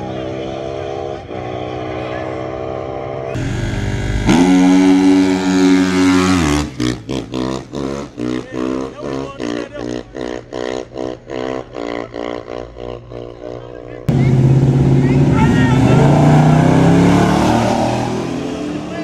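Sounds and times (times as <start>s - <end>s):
dirt bike engine passing: 0.0s - 19.0s.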